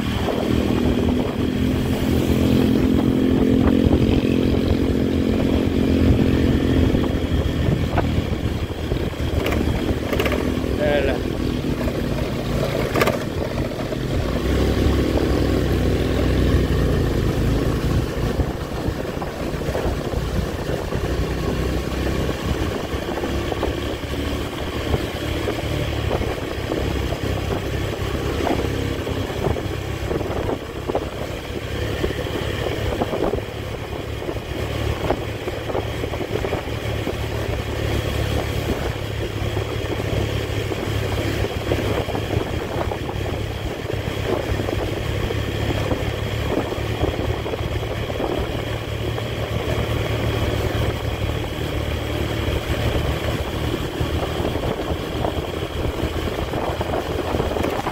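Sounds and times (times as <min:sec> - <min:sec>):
motorcycle engine running: 0:00.0 - 0:57.9
road noise rushing: 0:00.0 - 0:57.9.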